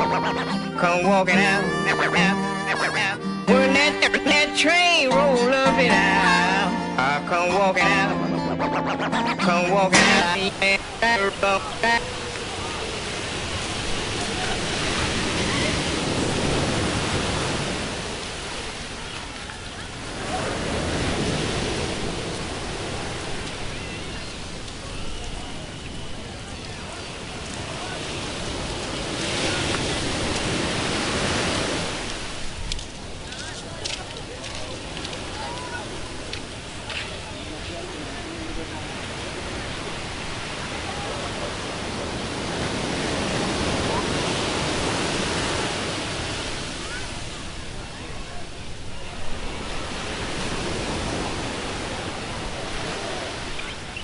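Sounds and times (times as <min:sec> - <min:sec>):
ocean surf washing ashore: 0:00.0 - 0:54.0.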